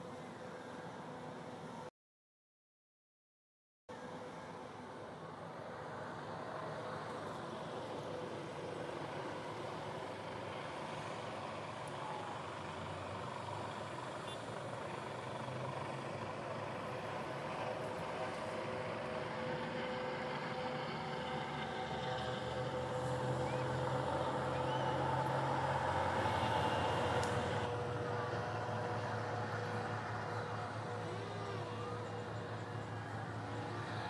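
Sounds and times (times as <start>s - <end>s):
engine drone: 3.9s - 34.0s.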